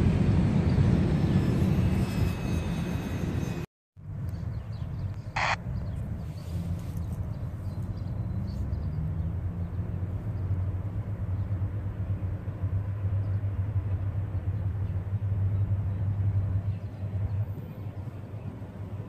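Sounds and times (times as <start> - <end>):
diesel locomotive engines droning: 0.0 - 19.0.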